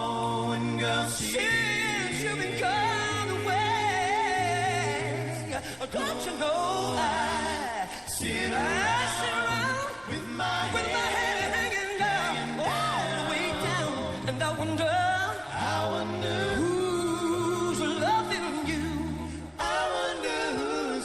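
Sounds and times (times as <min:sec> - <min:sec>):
men singing soul ballad in harmony: 0:00.0 - 0:21.0.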